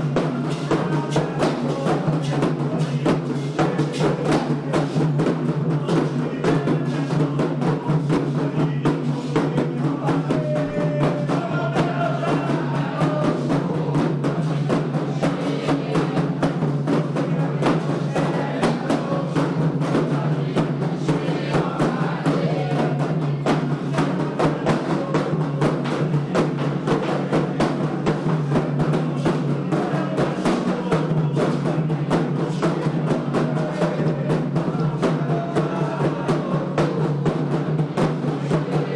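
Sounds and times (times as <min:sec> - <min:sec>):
faint voices singing: 0:00.0 - 0:38.9
hand drums playing: 0:00.0 - 0:38.9.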